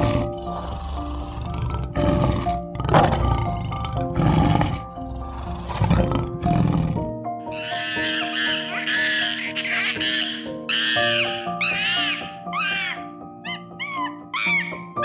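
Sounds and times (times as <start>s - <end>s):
animal roaring: 0.0s - 12.2s
background music: 0.0s - 15.0s.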